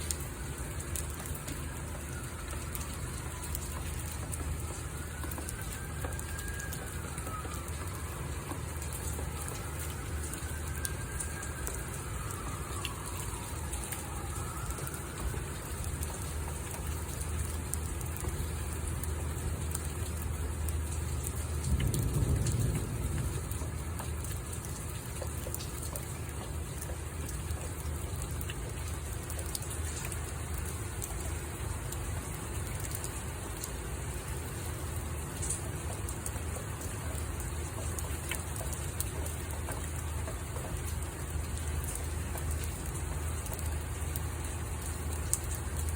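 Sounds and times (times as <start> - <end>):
distant siren wailing: 0.0 - 45.9
steady rain falling: 0.0 - 45.9.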